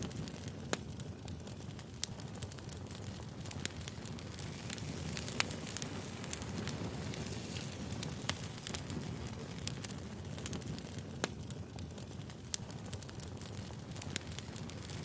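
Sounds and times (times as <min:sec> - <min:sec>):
fire hissing: 0:00.0 - 0:15.0
fire popping and snapping: 0:00.0 - 0:15.0.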